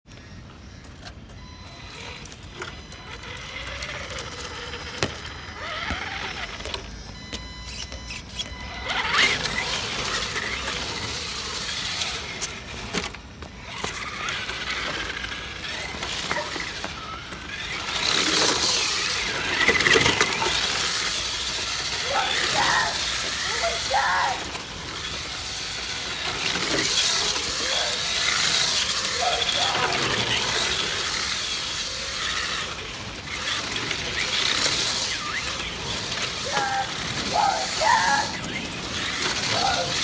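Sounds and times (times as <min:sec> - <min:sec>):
toy car motor whining: 0:00.1 - 0:40.0
tyres sliding: 0:00.8 - 0:40.0.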